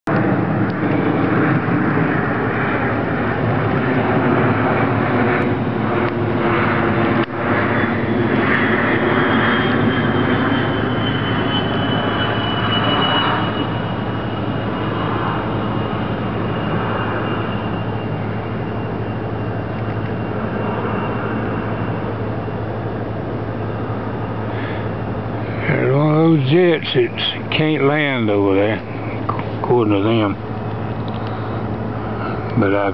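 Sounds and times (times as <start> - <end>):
twin-engine jet circling overhead: 0.0 - 32.9.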